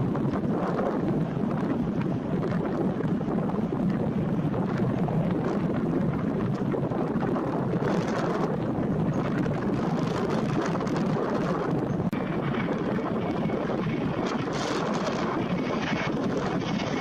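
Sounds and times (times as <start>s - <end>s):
airliner landing rumble: 0.0s - 17.0s
wind buffeting microphone: 0.0s - 17.0s.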